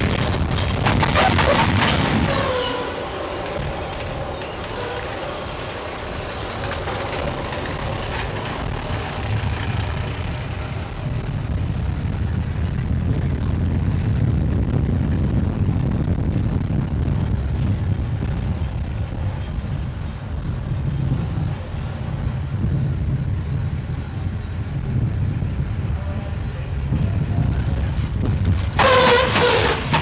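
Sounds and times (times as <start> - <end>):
roller coaster rumbling and rattling: 0.0 - 30.0
wind rushing on microphone: 0.0 - 30.0.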